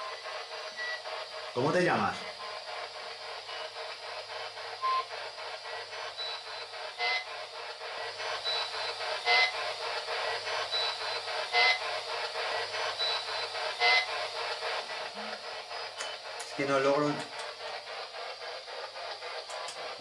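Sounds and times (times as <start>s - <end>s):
radio scanner choppy static: 1.0s - 20.0s.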